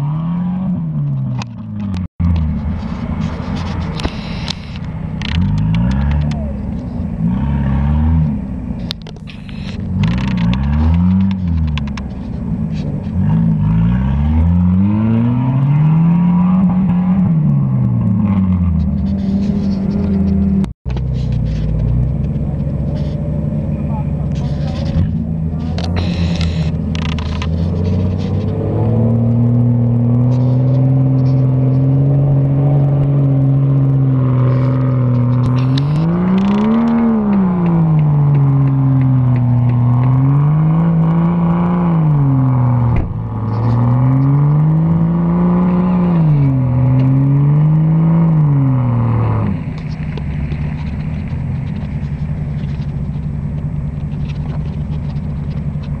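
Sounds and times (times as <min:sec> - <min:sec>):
off-road engine revving: 0:00.0 - 0:56.0.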